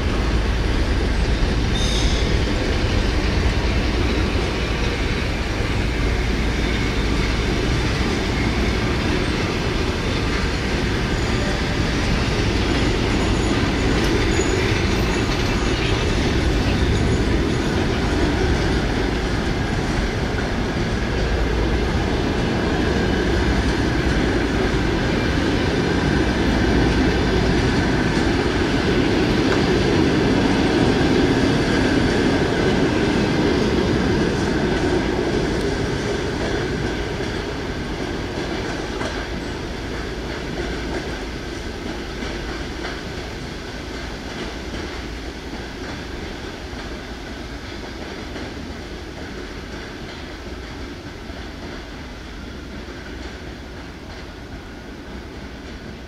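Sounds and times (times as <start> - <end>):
train coaches rumbling past: 0.0 - 56.0.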